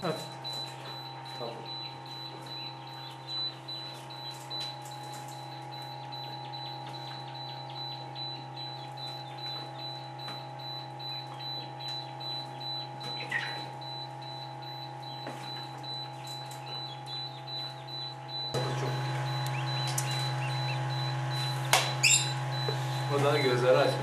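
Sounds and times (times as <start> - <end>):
chicks cheeping: 0.0 - 24.0
incubator humming and whining: 0.0 - 24.0.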